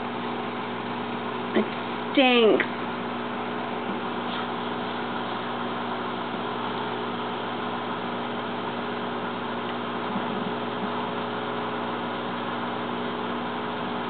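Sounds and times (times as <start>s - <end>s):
fan whirring: 0.0s - 14.0s
microwave electrical hum: 0.0s - 14.0s.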